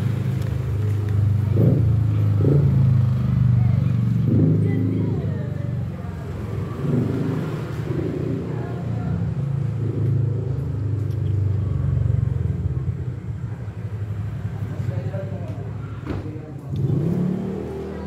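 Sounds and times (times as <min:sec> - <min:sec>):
faint voices: 0:00.0 - 0:18.0.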